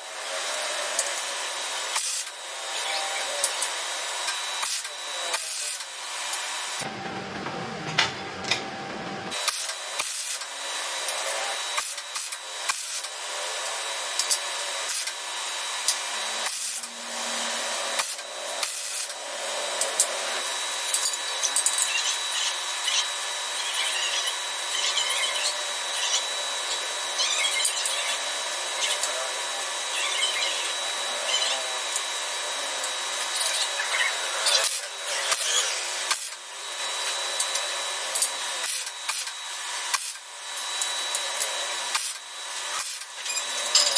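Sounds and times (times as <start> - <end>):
power tool working on metal: 0.0 - 43.9.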